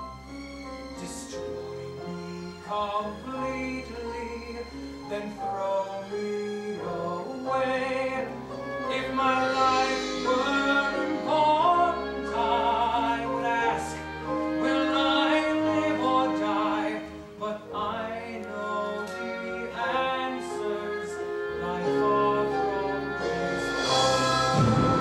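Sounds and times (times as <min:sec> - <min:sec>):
orchestral accompaniment: 0:00.0 - 0:25.0
man singing with vibrato: 0:02.0 - 0:25.0.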